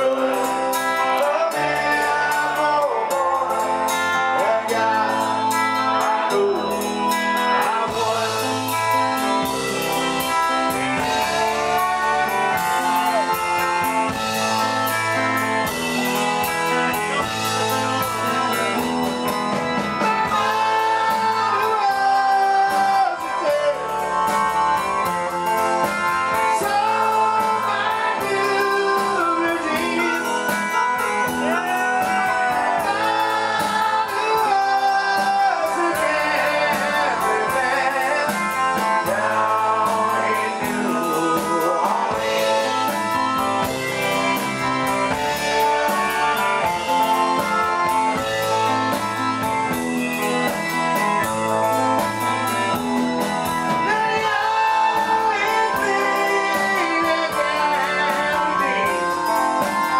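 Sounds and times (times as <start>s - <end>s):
lead vocal singing: 0.0s - 49.8s, 50.5s - 59.9s
rock band playing: 0.0s - 59.9s.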